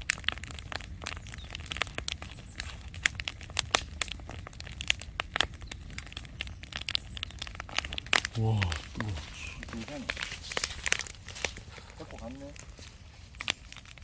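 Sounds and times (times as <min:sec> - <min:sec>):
campfire logs crackling: 0:00.0 - 0:14.0
fire low rumble: 0:00.0 - 0:14.0.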